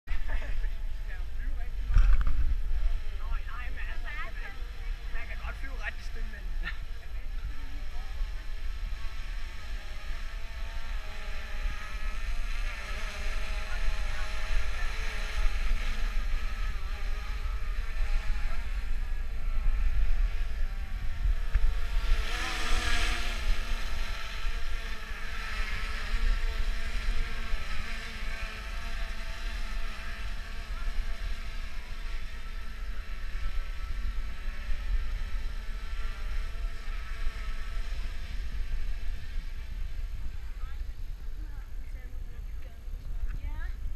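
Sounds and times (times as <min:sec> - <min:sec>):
drone propellers buzzing: 0:00.1 - 0:43.9
wind rumbling on microphone: 0:00.1 - 0:43.9.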